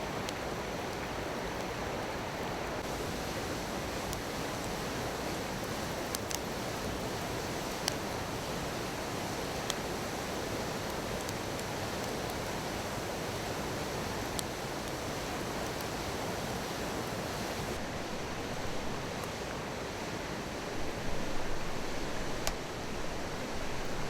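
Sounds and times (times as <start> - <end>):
bonfire crackles: 0.0 - 24.0.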